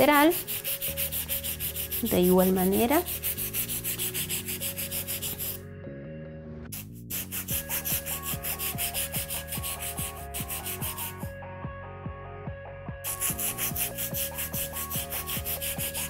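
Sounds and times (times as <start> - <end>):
nail file rasping on nail: 0.0 - 5.6, 6.7 - 11.3, 13.0 - 16.0.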